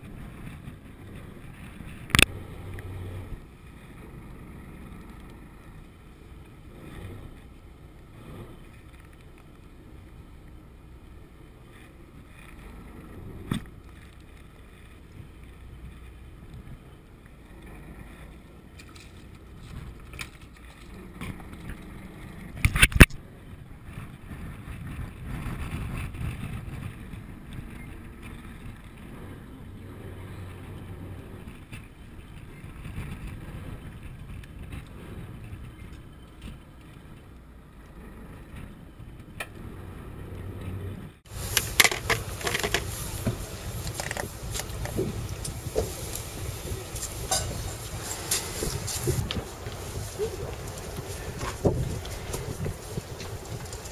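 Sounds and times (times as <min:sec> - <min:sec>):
wind and water rumble: 0:00.0 - 0:53.9.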